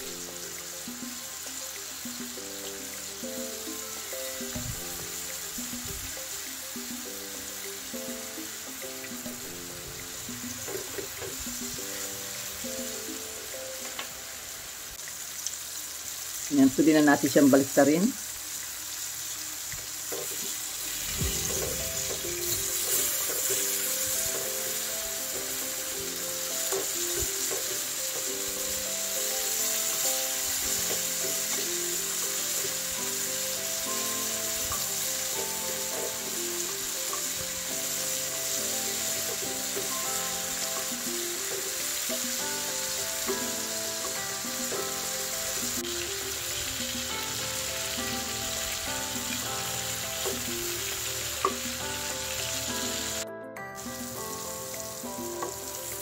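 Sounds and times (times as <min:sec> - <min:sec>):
chicken sizzling in a pan: 0:00.0 - 0:53.2, 0:53.8 - 0:56.0
soft background music: 0:00.0 - 0:56.0.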